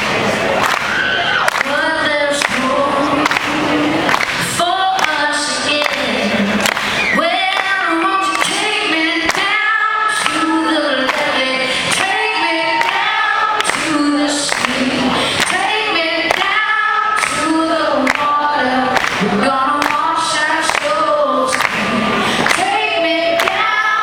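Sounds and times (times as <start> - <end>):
voices singing along: 0.4 - 24.0
woman singing rock vocal: 1.5 - 24.0.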